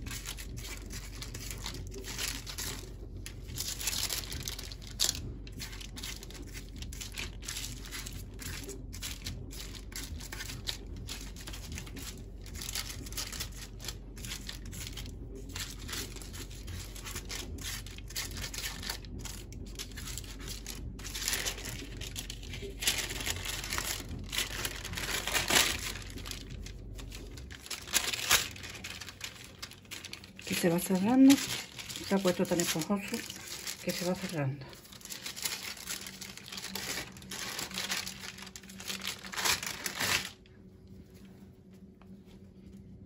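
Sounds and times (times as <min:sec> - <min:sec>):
baking paper crinkling: 0:00.0 - 0:41.4.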